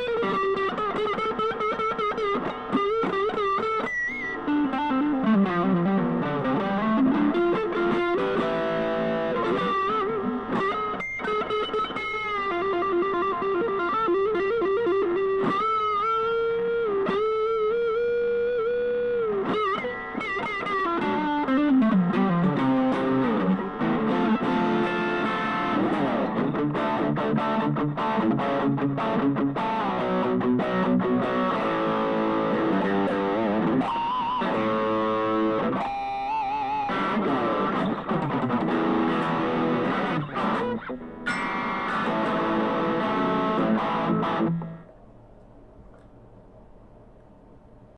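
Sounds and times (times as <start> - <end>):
overdriven electric guitar lead: 0.0 - 45.0.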